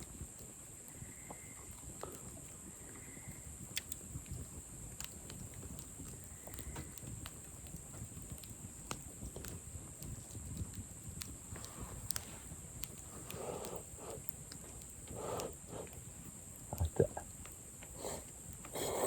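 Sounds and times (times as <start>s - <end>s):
campfire crackling and popping: 0.0s - 19.0s
steady high hiss: 0.0s - 19.0s.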